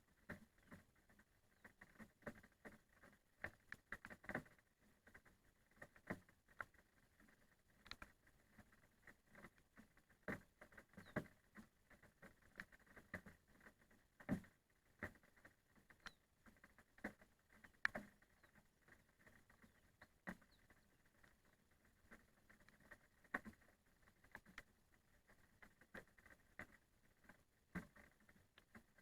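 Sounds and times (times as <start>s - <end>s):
raindrops tapping on a surface: 0.2s - 29.0s.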